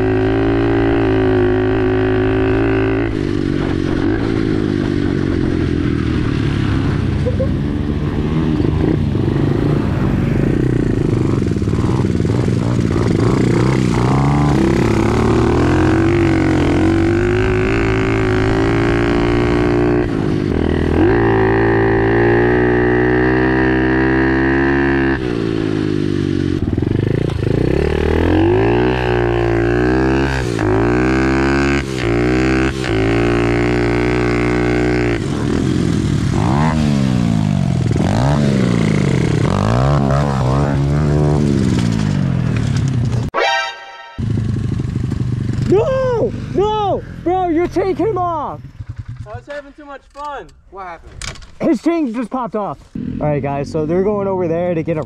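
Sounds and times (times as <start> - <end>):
four-wheeler engines running: 0.0 - 43.3, 44.2 - 50.4, 51.6 - 55.0
pit bike engine revving: 0.0 - 43.3, 44.2 - 49.6, 52.9 - 55.0.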